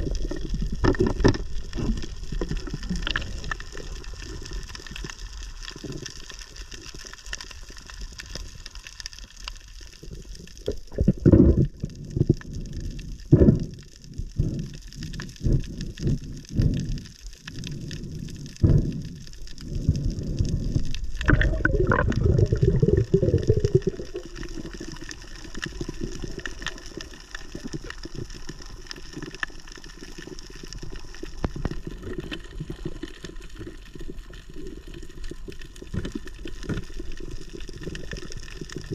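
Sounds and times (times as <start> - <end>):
underwater water gushing: 0.0 - 38.9.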